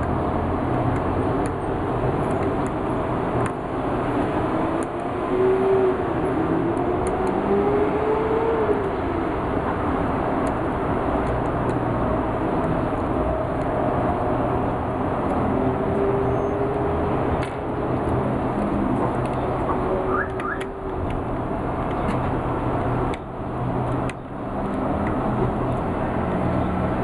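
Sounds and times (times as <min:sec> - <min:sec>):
motor vehicle rumble: 0:00.0 - 0:27.0.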